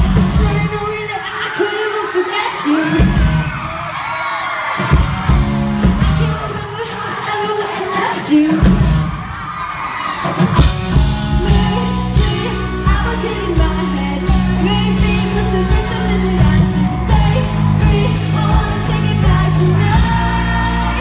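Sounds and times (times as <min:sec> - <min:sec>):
person singing lead vocal: 0:00.0 - 0:05.0, 0:06.0 - 0:10.7, 0:11.4 - 0:21.0
live pop-rock band: 0:00.0 - 0:21.0.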